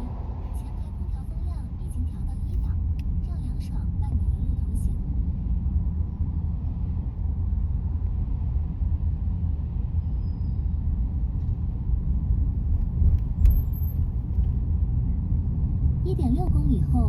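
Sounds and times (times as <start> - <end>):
road and tyre rumble: 0.0 - 17.0.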